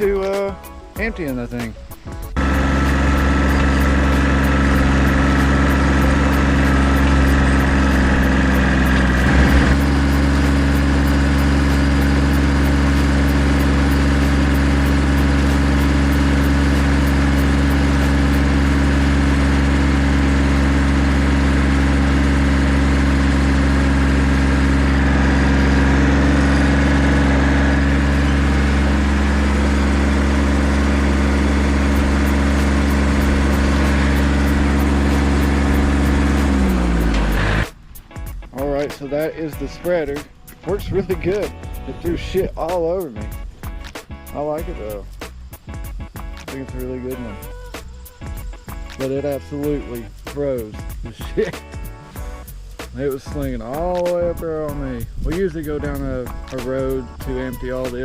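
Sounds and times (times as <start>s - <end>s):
tractor engine running: 2.1s - 47.5s, 48.2s - 58.0s.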